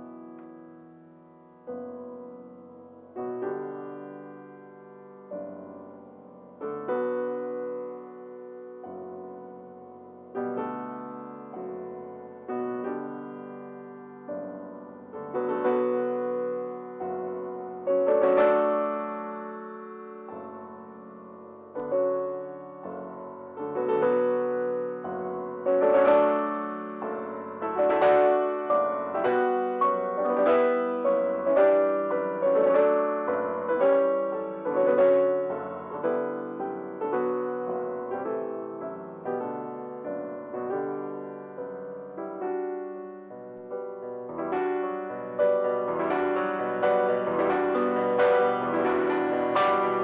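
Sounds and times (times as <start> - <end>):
grand piano chords: 0.0 - 50.0.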